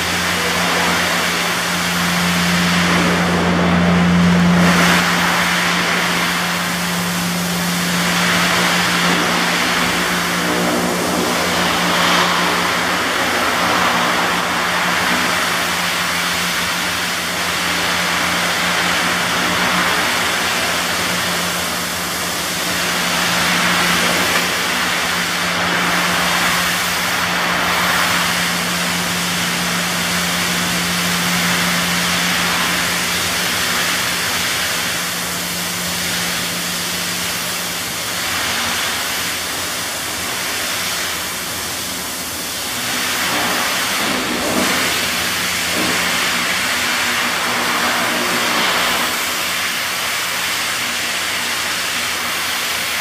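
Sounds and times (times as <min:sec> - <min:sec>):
machinery humming with hiss: 0:00.0 - 0:53.0.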